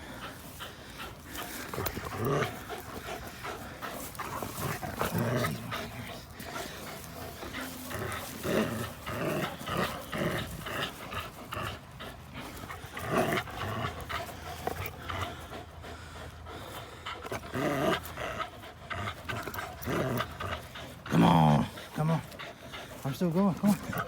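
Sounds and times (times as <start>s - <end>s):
dogs growling: 0.0s - 24.0s
dogs panting: 0.0s - 24.0s.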